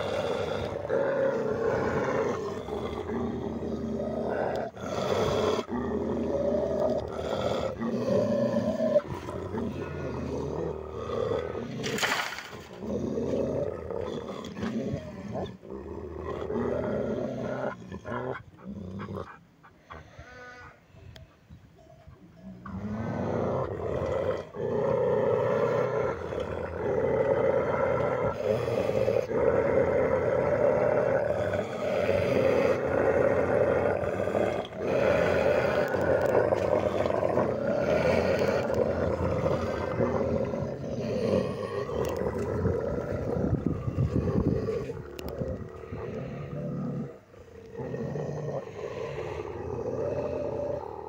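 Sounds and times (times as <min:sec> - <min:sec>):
dogs growling: 0:00.0 - 0:20.2, 0:22.0 - 0:51.0.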